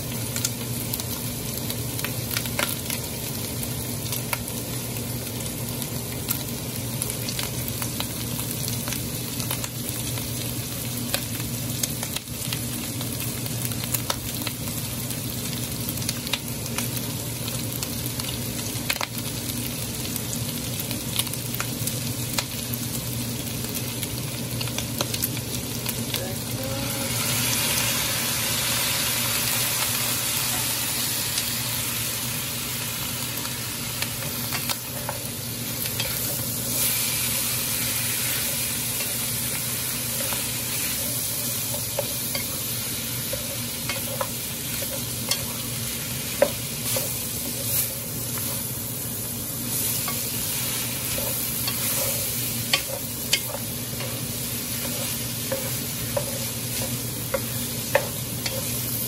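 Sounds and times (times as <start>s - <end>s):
meat and onions sizzling in oil: 0.0s - 59.0s.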